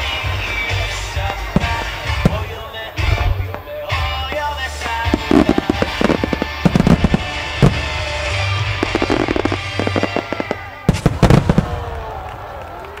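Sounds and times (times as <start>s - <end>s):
firework shells bursting: 0.0s - 12.3s
music: 0.0s - 12.8s.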